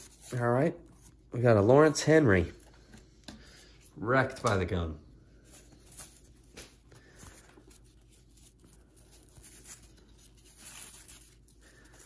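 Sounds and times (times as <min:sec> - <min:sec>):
cards rustling: 0:00.0 - 0:12.0.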